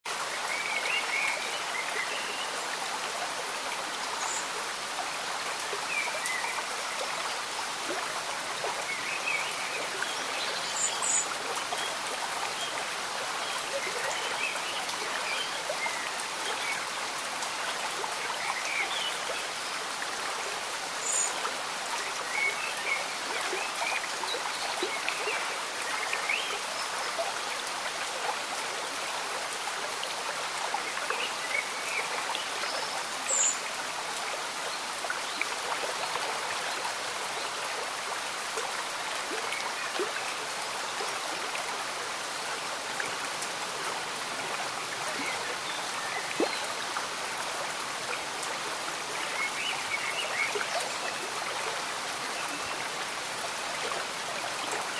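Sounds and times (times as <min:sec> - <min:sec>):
gentle rain falling: 0:00.0 - 0:54.9
stream bubbling and trickling: 0:00.0 - 0:54.9.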